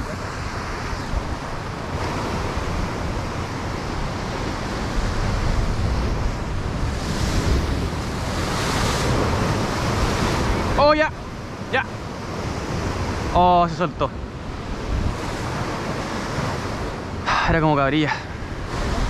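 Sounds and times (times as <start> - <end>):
wind buffeting microphone: 0.0 - 17.6, 18.2 - 19.0.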